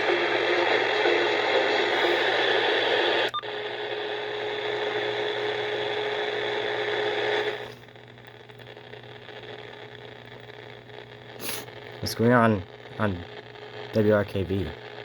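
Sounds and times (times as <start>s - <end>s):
radio static hiss: 0.0s - 15.0s
steady hum: 0.0s - 15.0s.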